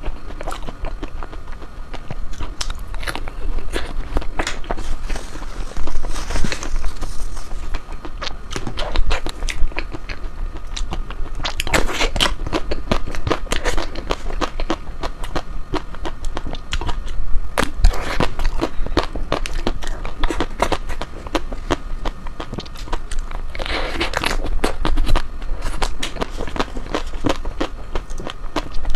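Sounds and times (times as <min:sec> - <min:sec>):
person chewing ice cream: 0:00.0 - 0:28.9.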